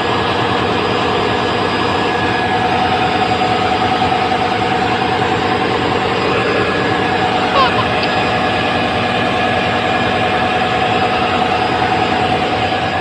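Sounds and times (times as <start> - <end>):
engine-room machinery drone: 0.0 - 13.0.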